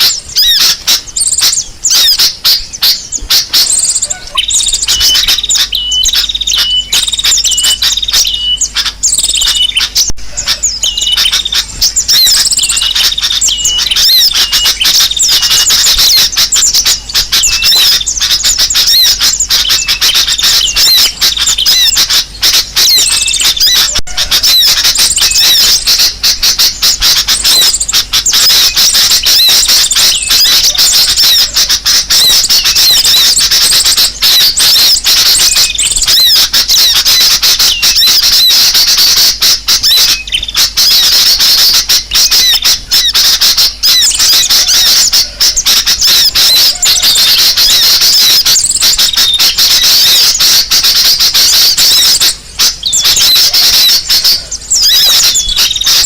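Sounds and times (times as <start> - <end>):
small birds chattering: 0.0 - 56.0.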